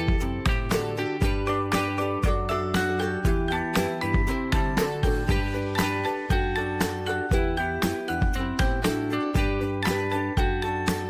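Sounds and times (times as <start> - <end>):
upbeat music with plucked guitar: 0.0 - 11.0.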